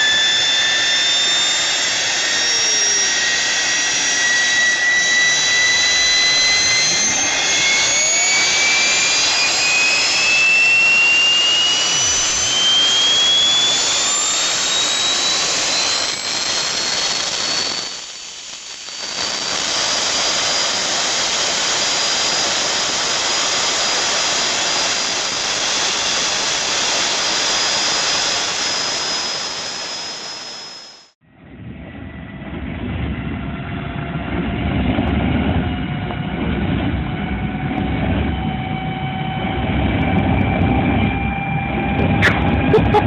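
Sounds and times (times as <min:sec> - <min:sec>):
jet engine deep rumble: 0:00.0 - 0:43.0
jet engine high whine: 0:00.0 - 0:43.0.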